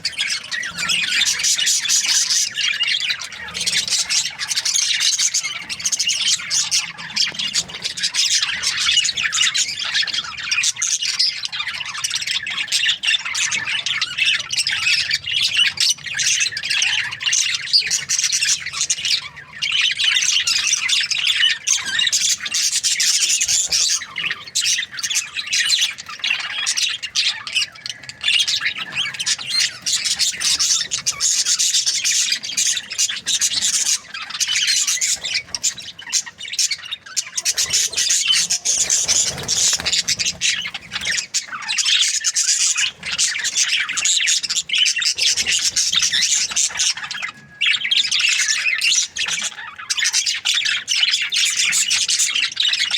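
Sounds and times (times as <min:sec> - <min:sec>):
budgerigars chirping and chattering: 0:00.0 - 0:52.9.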